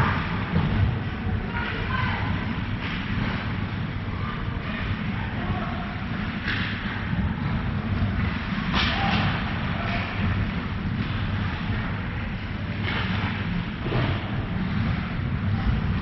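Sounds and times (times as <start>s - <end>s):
rink low rumble: 0.0s - 16.0s.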